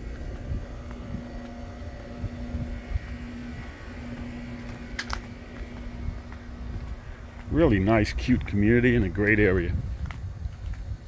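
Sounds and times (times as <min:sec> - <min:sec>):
steady low hum: 0:00.0 - 0:11.0
wind rumble: 0:00.0 - 0:11.0.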